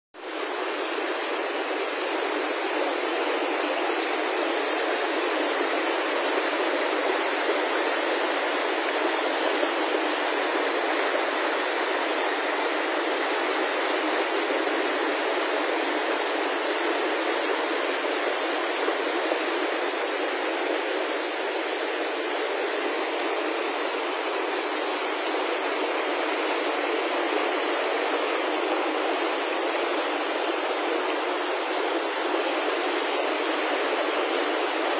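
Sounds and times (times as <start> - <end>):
stream rushing over stones: 0.2 - 34.9.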